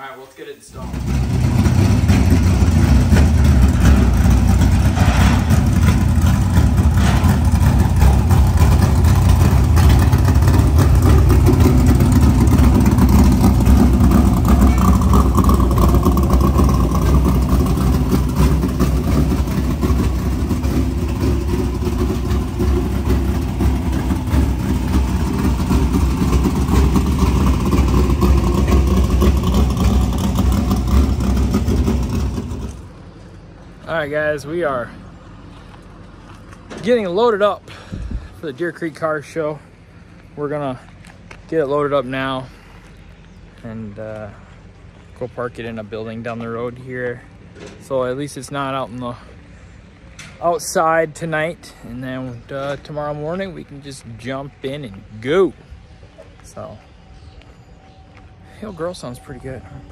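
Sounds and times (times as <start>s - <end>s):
race car engine rumbling: 0.0s - 59.9s.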